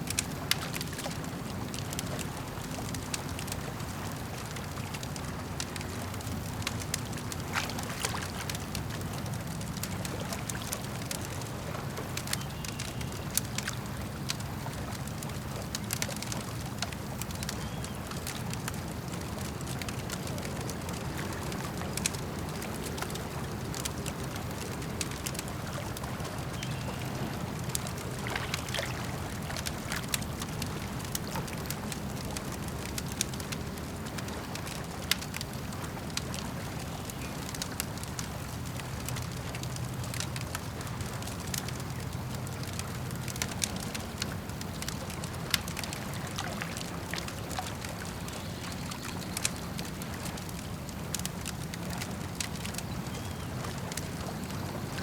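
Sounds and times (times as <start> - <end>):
campfire crackling and popping: 0.0 - 55.0
lake water lapping: 0.0 - 55.0.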